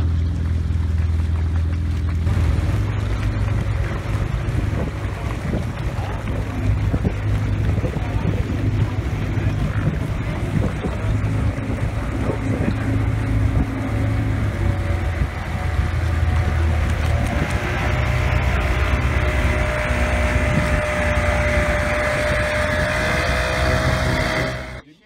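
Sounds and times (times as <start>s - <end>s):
outboard motor running: 0.0s - 24.8s
wind buffeting microphone: 0.0s - 24.8s.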